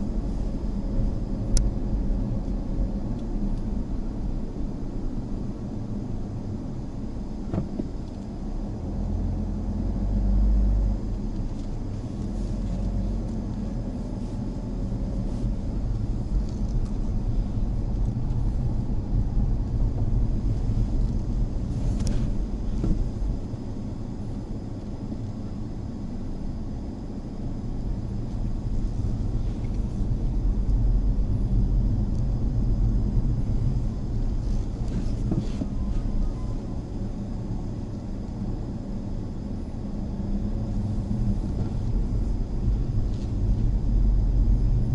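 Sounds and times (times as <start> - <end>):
car engine rumble: 0.0 - 44.9
road noise: 0.0 - 44.9.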